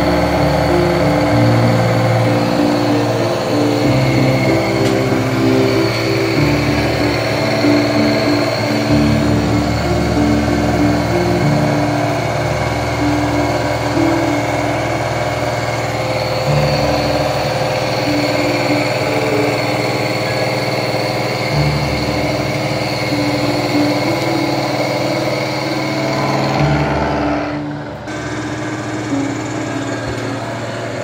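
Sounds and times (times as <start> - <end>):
milling machine grinding whine: 0.0 - 31.0
slow background music: 0.0 - 31.0.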